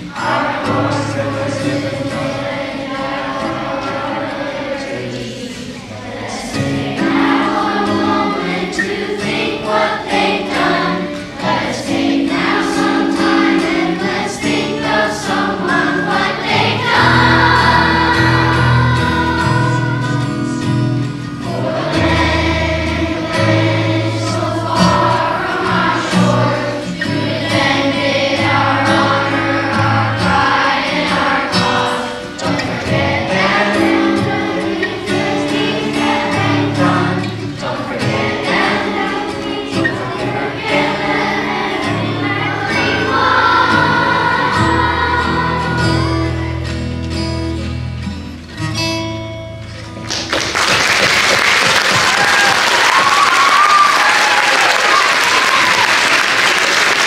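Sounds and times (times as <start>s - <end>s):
children's choir singing: 0.0s - 47.3s, 50.4s - 57.0s.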